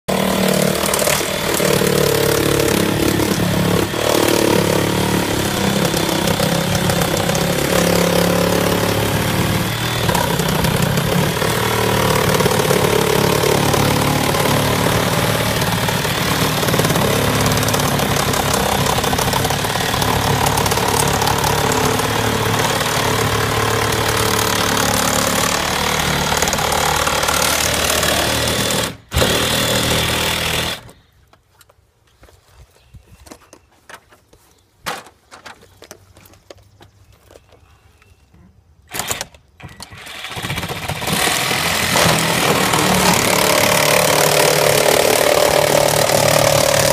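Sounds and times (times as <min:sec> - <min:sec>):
reciprocating saw cutting: 0:00.1 - 0:31.0, 0:38.9 - 0:46.9.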